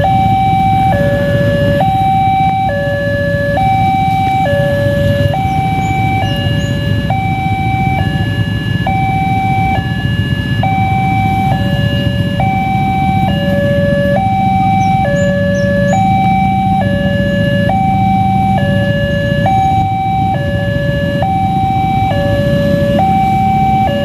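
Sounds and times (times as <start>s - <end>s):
two-tone crossing alarm: 0.0s - 24.0s.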